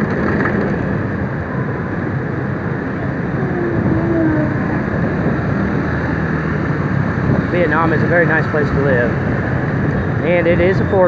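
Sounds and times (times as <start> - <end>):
motorbike engine: 0.0 - 10.8
wind on microphone: 0.0 - 10.8
hum of scooters: 0.0 - 11.0
road noise: 0.0 - 11.0.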